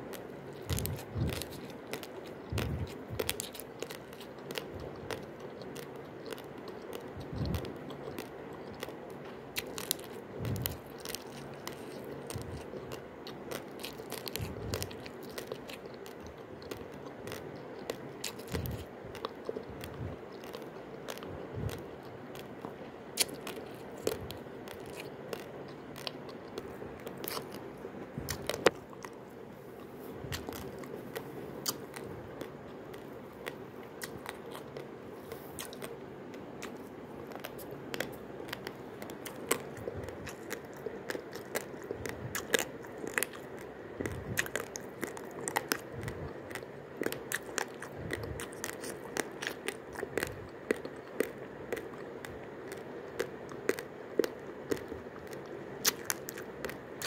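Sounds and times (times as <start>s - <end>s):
rice grains crunching: 0.0s - 57.0s.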